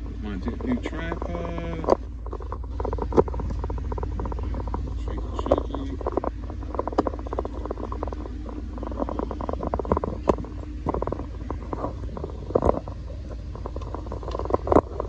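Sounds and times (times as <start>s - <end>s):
low handling rumble: 0.0s - 15.0s
small clicks and rattles: 0.0s - 15.0s.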